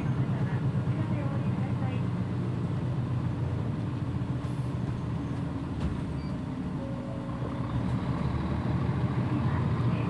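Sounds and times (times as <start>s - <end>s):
bus engine drone: 0.0s - 10.0s
road noise: 0.0s - 10.0s.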